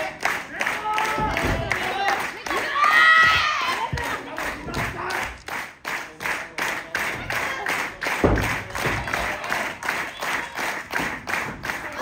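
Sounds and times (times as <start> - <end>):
crowd clapping in unison: 0.0 - 12.0.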